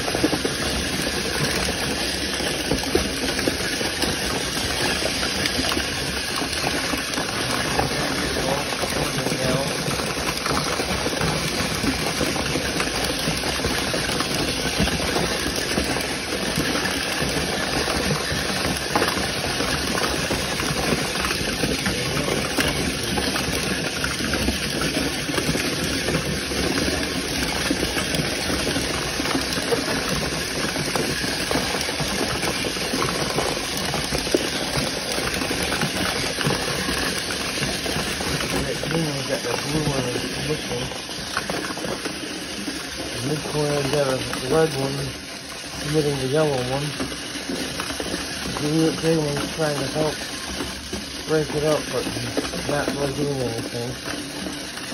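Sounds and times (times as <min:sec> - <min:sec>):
plastic toy cars rattling and knocking: 0:00.0 - 0:54.9
whir of tiny toy car motors: 0:00.0 - 0:54.9.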